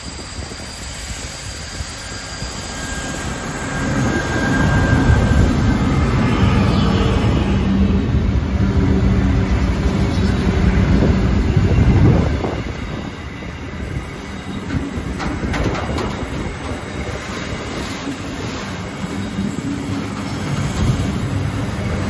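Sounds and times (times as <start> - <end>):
locomotive engine drone: 0.2 - 22.0.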